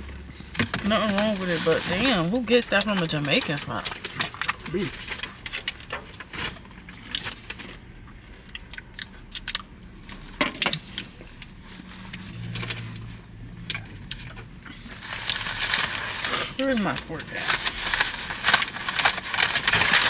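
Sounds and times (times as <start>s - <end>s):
food containers and bag rustling: 0.0s - 8.4s, 9.9s - 20.0s.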